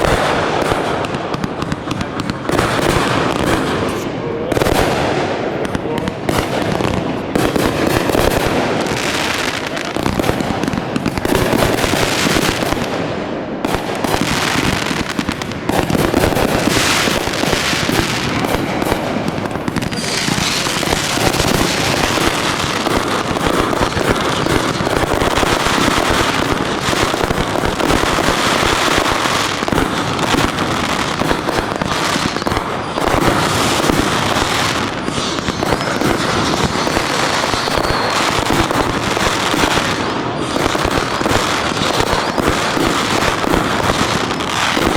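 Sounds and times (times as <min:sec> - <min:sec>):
fireworks bursts and booms: 0:00.0 - 0:44.9
fireworks crackle: 0:00.0 - 0:44.9.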